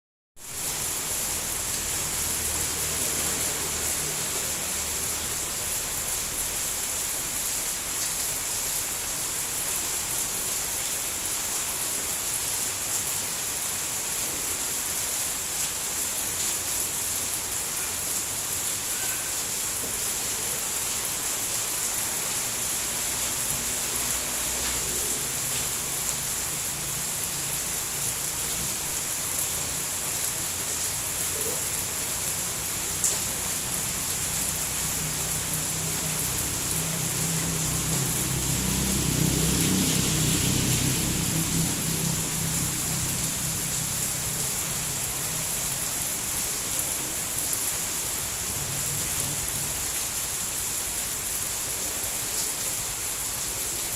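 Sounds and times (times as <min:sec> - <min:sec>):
steady rain: 0:00.4 - 0:53.9.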